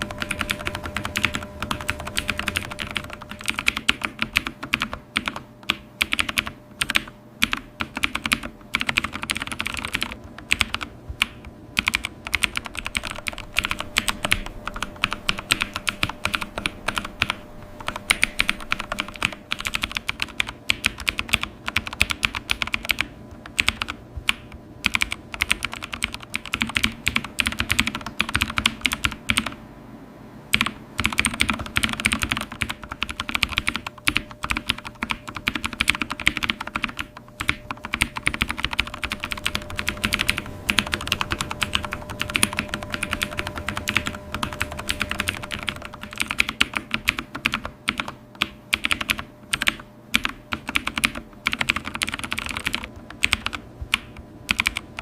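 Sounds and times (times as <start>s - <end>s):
typing on computer keyboard: 0.0s - 29.6s, 30.5s - 55.0s
faint steady hum: 0.0s - 55.0s.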